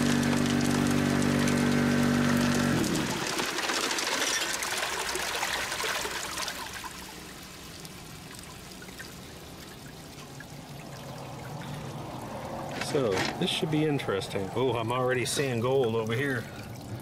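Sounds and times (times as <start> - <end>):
water rushing down a sluice: 0.0 - 17.0.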